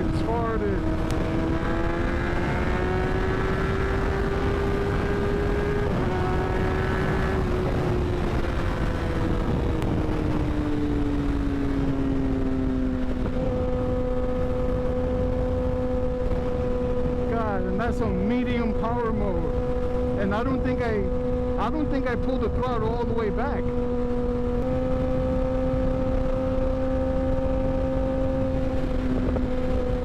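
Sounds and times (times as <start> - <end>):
motorcycle engine: 0.0 - 30.0
wind rush on microphone: 0.0 - 30.0.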